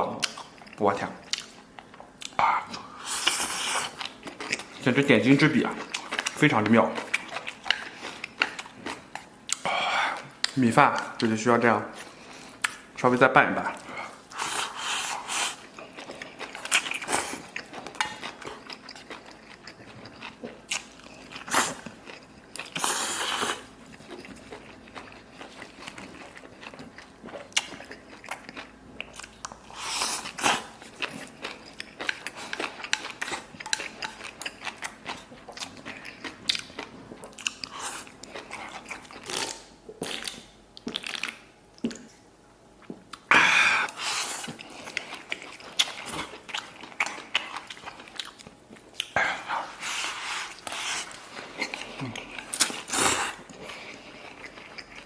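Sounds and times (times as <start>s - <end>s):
person chewing food: 0.2s - 11.3s, 11.9s - 13.0s, 13.6s - 42.2s, 42.8s - 55.0s.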